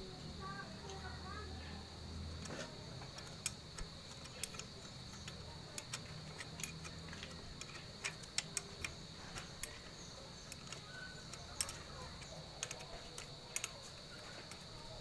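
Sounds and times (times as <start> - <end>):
faint high-pitched whine: 0.0 - 15.0
metal parts clicking: 2.3 - 15.0.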